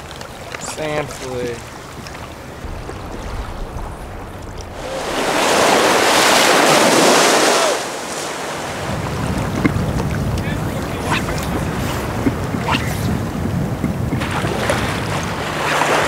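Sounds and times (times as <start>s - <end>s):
surf washing in: 0.0s - 16.0s
wind rumbling on microphone: 0.0s - 16.0s.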